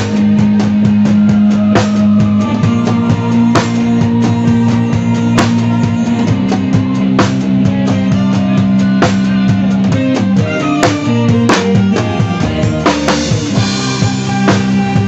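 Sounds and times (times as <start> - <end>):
bass line: 0.0 - 15.0
drum kit: 0.0 - 15.0
held chords: 0.0 - 15.0.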